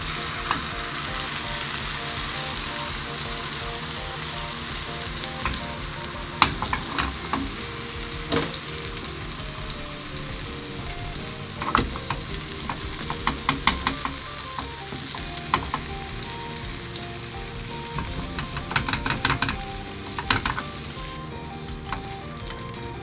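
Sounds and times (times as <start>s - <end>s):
egg sizzling in pan: 0.0s - 23.0s
spatula tapping pan: 0.0s - 23.0s.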